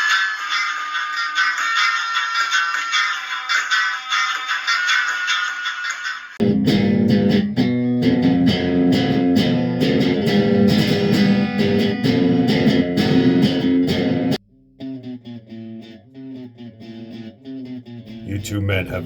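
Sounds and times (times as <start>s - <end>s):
instrumental rock music: 0.0s - 18.3s.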